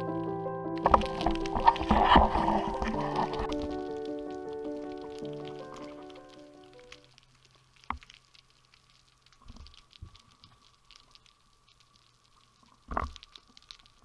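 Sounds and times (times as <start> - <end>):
underwater crackle of tiny clicks: 0.8 - 14.0.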